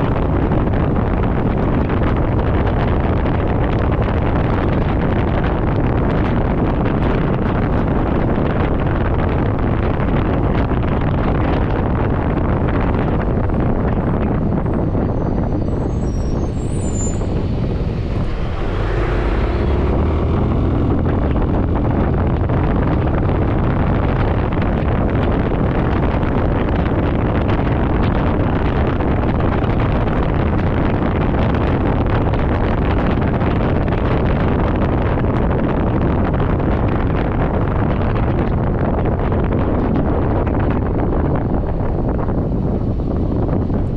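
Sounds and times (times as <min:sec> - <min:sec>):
vehicle drone: 0:00.0 - 0:43.9
wind rush and road noise: 0:00.0 - 0:43.9.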